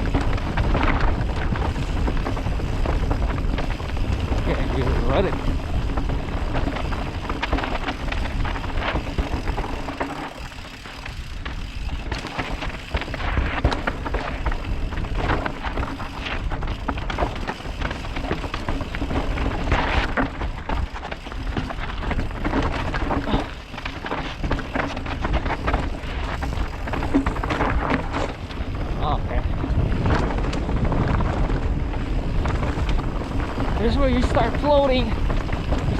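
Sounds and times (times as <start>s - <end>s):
bike rattling over rocks: 0.0s - 35.9s
wind rumble on microphone: 0.0s - 35.9s.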